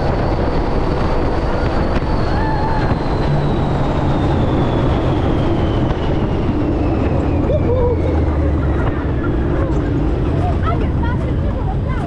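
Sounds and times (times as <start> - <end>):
high whine falling in pitch: 0.0 - 10.6
wind and rolling noise: 0.0 - 12.0.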